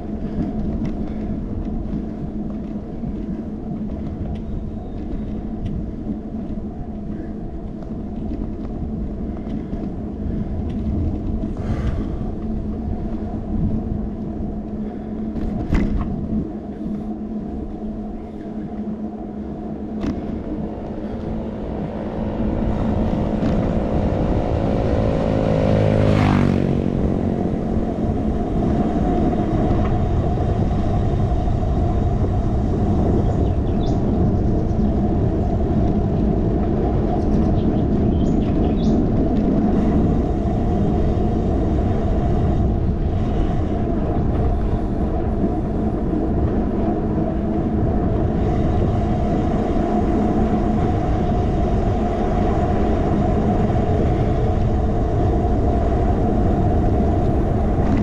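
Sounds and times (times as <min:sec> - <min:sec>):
bicycle rolling rumble: 0:00.0 - 0:58.0
motor vehicle passing: 0:00.0 - 0:58.0
wind: 0:00.0 - 0:58.0.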